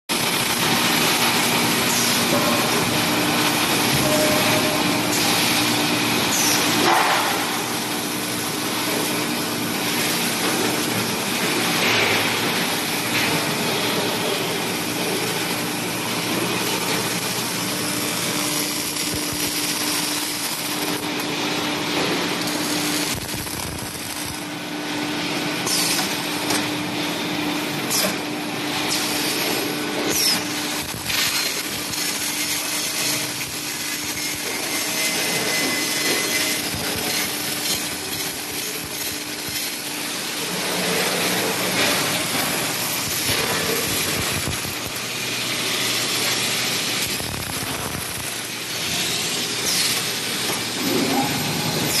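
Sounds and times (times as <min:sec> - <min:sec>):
welding line mechanical noise: 0:00.1 - 0:52.0.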